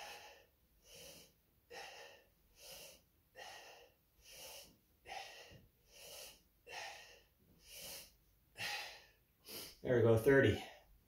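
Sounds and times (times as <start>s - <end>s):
man breathing hard: 0.0s - 9.8s.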